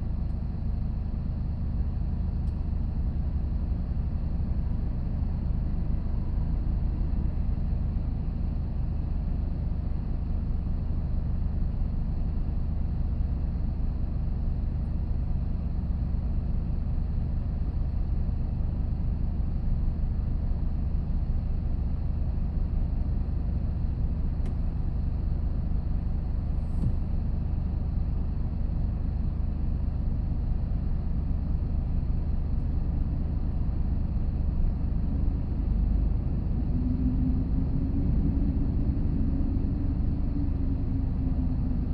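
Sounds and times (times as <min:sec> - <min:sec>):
engine and road rumble: 0:00.0 - 0:41.9.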